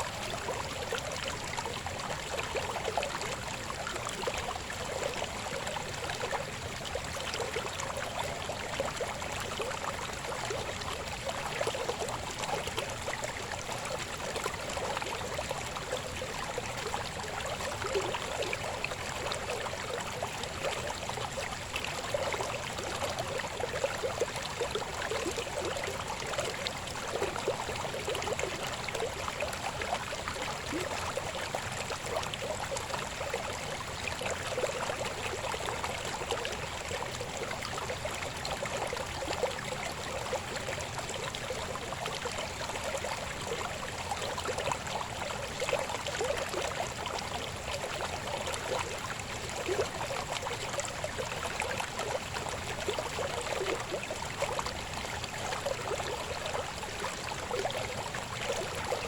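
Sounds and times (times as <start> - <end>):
babbling river: 0.0 - 59.0.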